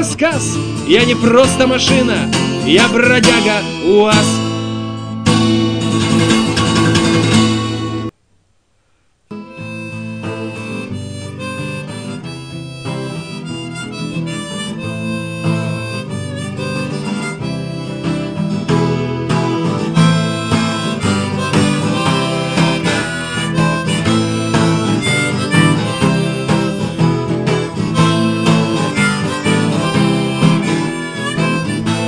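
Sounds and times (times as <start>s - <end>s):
harmonica: 0.0s - 8.1s, 9.3s - 32.0s
guitar: 0.0s - 8.2s, 9.3s - 32.0s.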